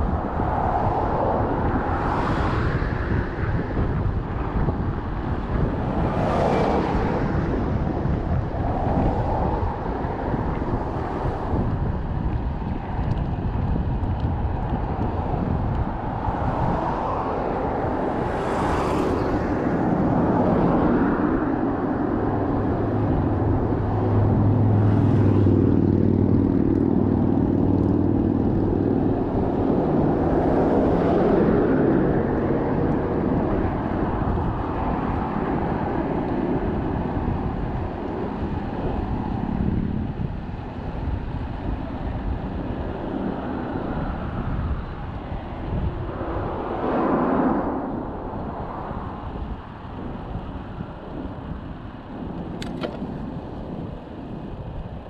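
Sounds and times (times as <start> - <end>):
vehicles swooshing past: 0.0 - 12.0, 15.2 - 40.3, 42.0 - 54.3
large vehicle engine hum: 0.0 - 55.0
road traffic noise: 0.0 - 55.0.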